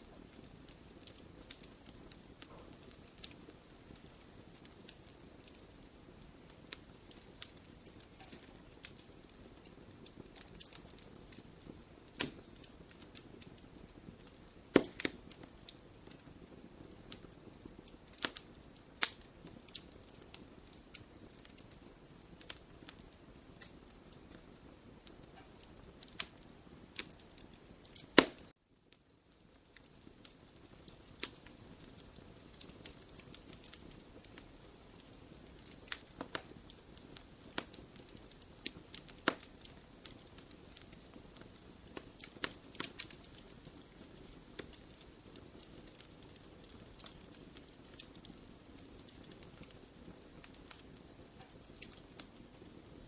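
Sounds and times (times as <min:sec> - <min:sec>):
burning wood popping: 0:00.0 - 0:53.0
wood fire crackling: 0:00.0 - 0:53.0.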